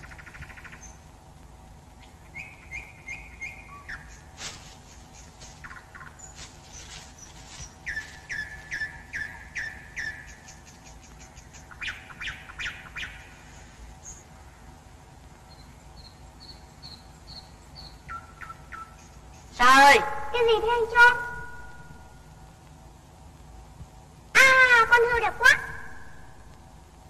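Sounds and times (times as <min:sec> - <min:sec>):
birds chirping: 0:00.0 - 0:26.7.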